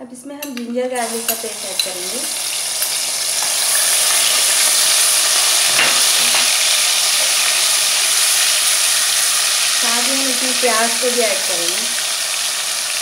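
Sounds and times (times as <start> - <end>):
paste sizzling in hot oil: 1.0 - 13.0.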